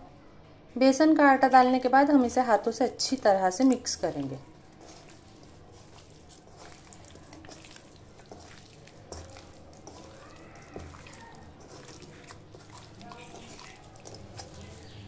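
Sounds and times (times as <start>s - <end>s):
wet squishing of fish: 2.9s - 15.0s.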